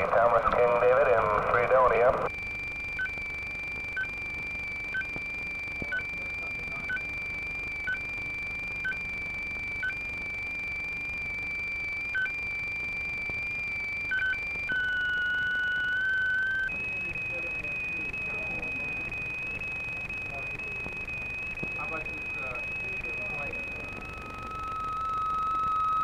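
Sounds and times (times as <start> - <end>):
fax machine tones: 0.0 - 26.0.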